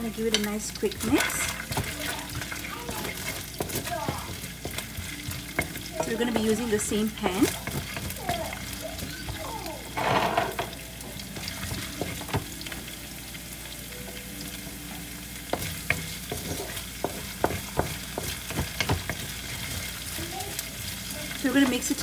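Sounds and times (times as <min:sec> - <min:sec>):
wooden spatula scraping wok: 0:00.0 - 0:13.0, 0:14.7 - 0:22.0
sizzling in hot oil: 0:00.0 - 0:22.0.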